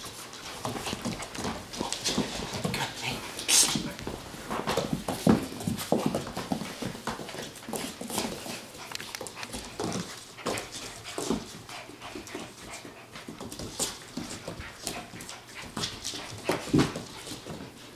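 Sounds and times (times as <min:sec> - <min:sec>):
paws scuffling on wooden floor: 0:00.0 - 0:17.9.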